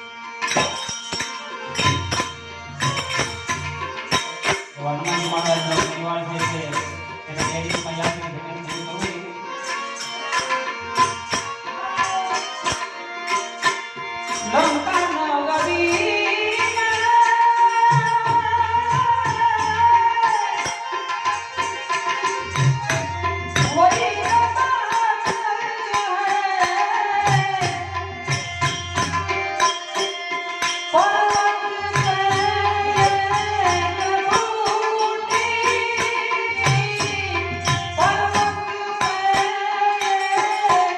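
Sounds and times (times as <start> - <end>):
drum and percussion rhythm: 0.0 - 40.9.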